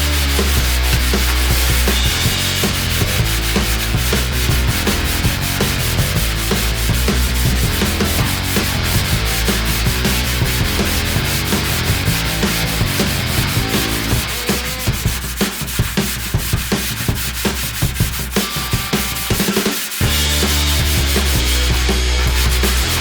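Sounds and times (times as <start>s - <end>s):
hand sanding back and forth: 0.0s - 23.0s.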